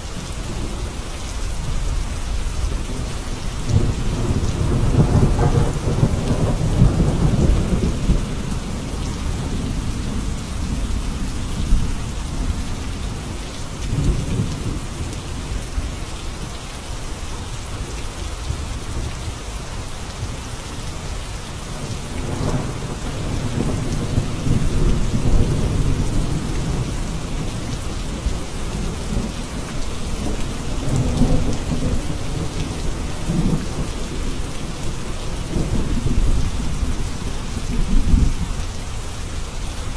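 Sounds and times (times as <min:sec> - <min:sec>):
heavy rain hissing: 0:00.0 - 0:39.9
low rolling thunder: 0:00.5 - 0:16.0, 0:21.7 - 0:38.8.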